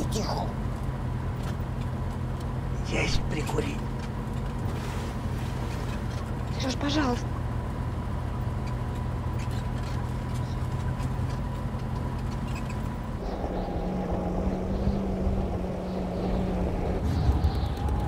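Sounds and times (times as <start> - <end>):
road noise: 0.0 - 18.0
van engine running: 0.0 - 18.0.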